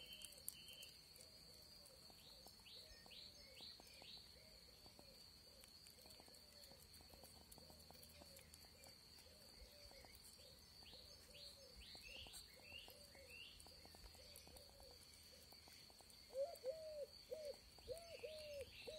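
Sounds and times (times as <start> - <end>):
hedgehog chewing food: 0.0 - 18.9.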